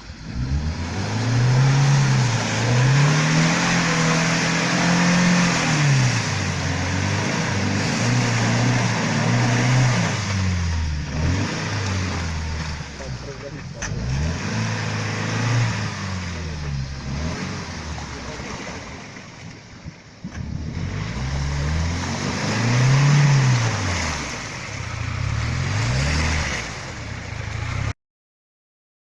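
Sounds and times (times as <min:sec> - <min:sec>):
off-road vehicle engine revving: 0:00.0 - 0:19.4, 0:20.2 - 0:28.0.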